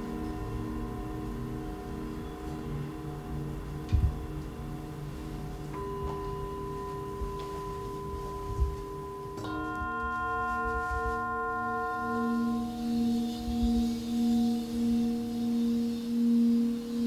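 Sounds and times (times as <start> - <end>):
low bowl tone pulsing: 0.0 - 17.0
singing bowl struck: 0.0 - 17.0.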